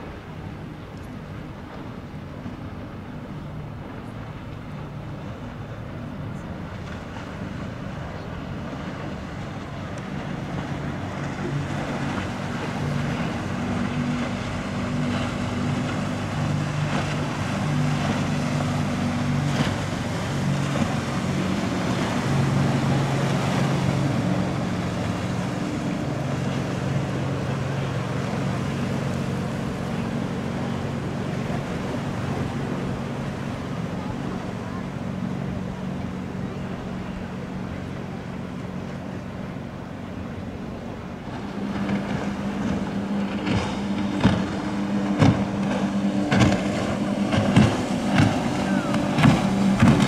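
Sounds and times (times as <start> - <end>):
motorboat engine humming: 0.0 - 50.0
wind and water hiss: 0.0 - 50.0.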